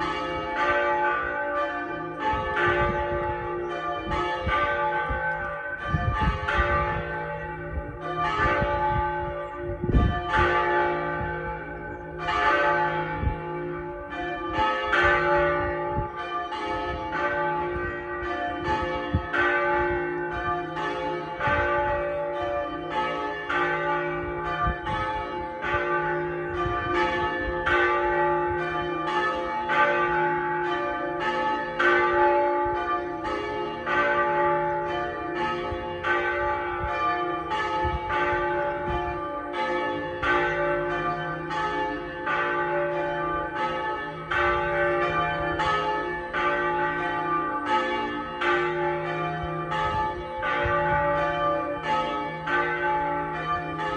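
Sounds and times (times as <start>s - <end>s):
church tower bells ringing: 0.0s - 53.9s.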